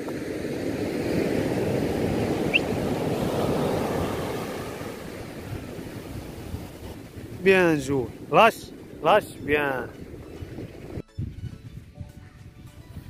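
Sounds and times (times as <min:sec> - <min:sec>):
surf washing up beach: 0:00.0 - 0:11.0
wind on microphone: 0:00.0 - 0:13.0.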